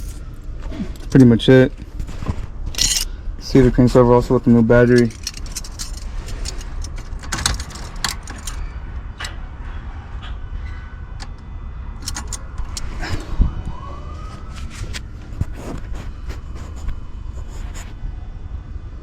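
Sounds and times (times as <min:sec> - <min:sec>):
rising whine: 0:00.0 - 0:19.0.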